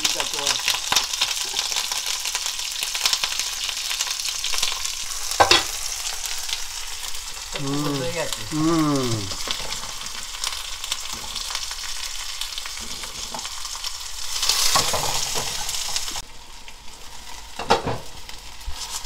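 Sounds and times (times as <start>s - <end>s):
broth boiling: 0.0s - 19.0s.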